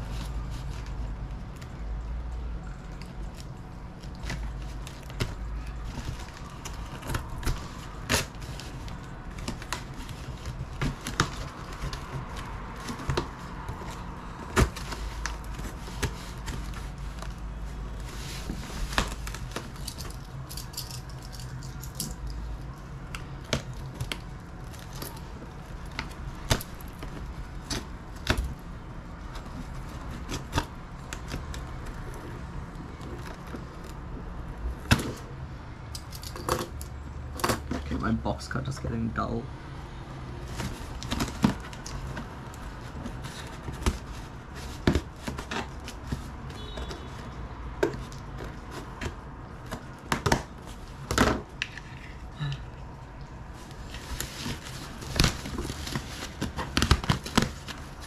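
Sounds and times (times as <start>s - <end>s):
fabric and packaging rustling: 0.0s - 39.1s, 40.0s - 58.0s.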